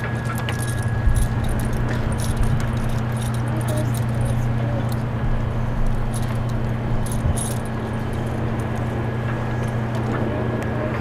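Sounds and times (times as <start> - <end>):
metallic clinking and jangling: 0.0 - 10.1
steady low hum: 0.0 - 11.0.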